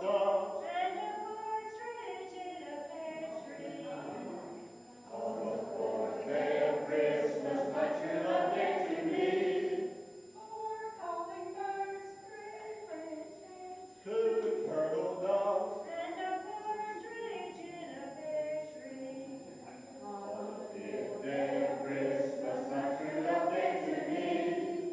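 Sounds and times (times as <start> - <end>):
group of people singing: 0.0 - 11.8, 14.0 - 18.2, 18.8 - 24.9.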